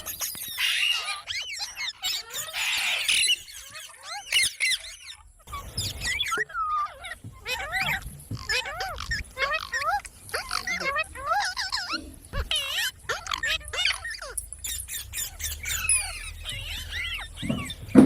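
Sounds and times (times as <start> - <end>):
parakeet chirping and squawking: 0.0 - 18.0.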